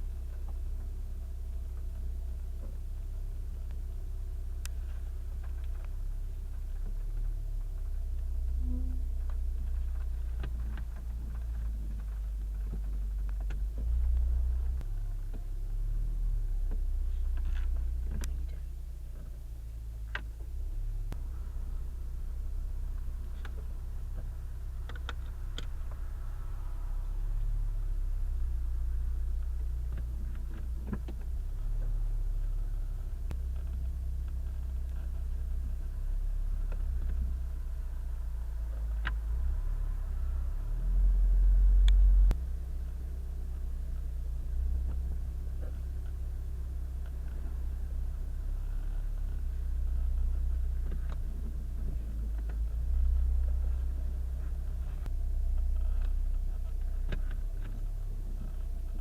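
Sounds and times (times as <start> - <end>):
car driving rumble: 0.0 - 59.0
steering grinding noise: 4.6 - 59.0.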